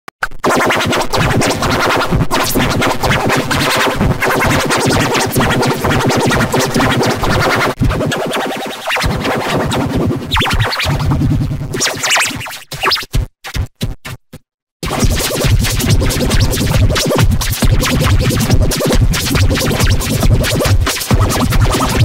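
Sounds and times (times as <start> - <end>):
distorted electronic music: 0.2 - 14.2, 14.8 - 22.0.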